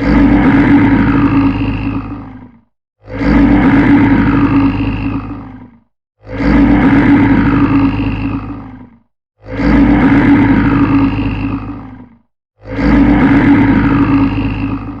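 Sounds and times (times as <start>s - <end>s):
bear roaring: 0.0s - 15.0s.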